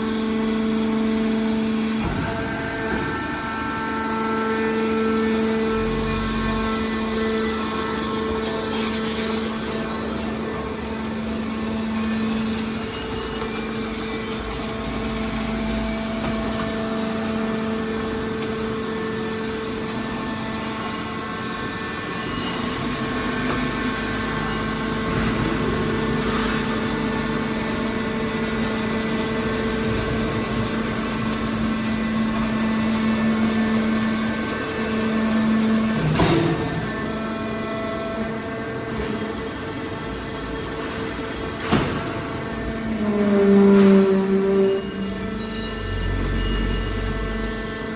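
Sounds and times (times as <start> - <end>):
machinery humming: 0.0 - 47.9.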